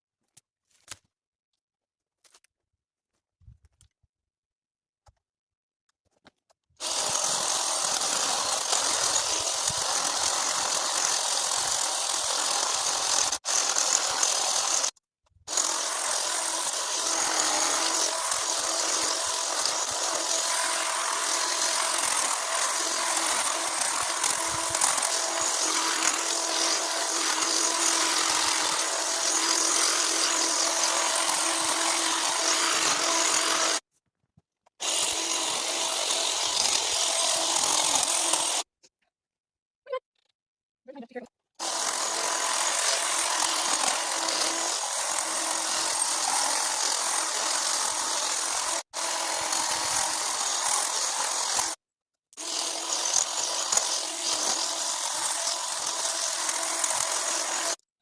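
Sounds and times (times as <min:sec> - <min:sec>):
electric cutting tool buzzing: 0:06.8 - 0:33.8, 0:34.8 - 0:38.7, 0:41.6 - 0:51.8, 0:52.4 - 0:57.8.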